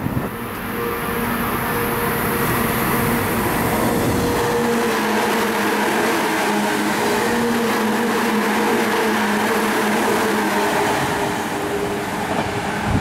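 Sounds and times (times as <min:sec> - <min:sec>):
steady train hum: 0:00.0 - 0:13.0
train wheels rumbling on rail: 0:00.0 - 0:13.0.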